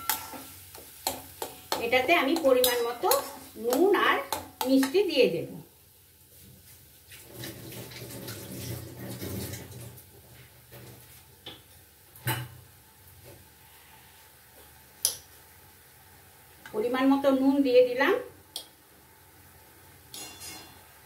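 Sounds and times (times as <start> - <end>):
muffled kitchen background noise: 0.0 - 21.0.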